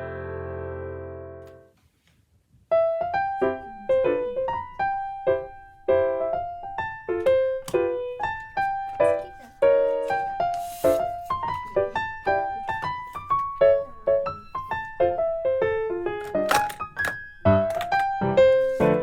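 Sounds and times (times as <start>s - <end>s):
gentle piano music: 0.0s - 1.8s, 2.7s - 19.0s.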